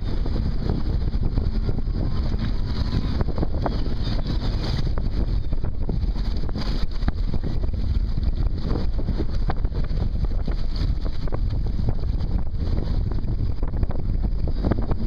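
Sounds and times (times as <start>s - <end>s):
choppy sea: 0.0s - 15.0s
wind buffeting microphone: 0.0s - 15.0s.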